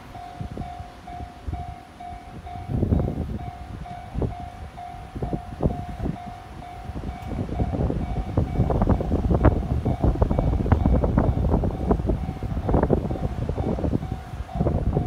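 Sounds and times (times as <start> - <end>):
level crossing warning bell: 0.0 - 15.0
wind buffeting microphone: 0.0 - 15.0.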